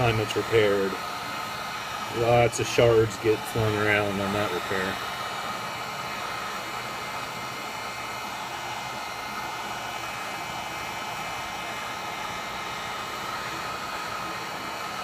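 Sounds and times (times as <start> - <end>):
heat gun whooshing whine: 0.0 - 15.0.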